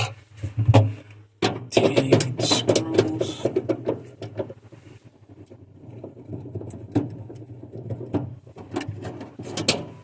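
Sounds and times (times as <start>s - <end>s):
plastic panel being handled: 0.0s - 10.0s.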